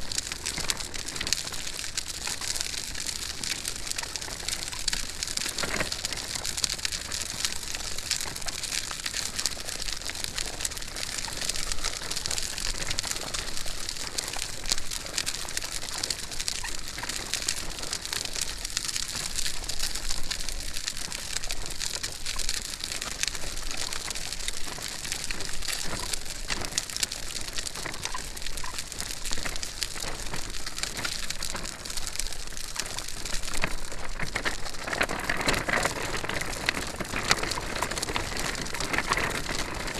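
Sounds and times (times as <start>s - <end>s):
stroller wheels rolling on ground: 0.0s - 39.9s.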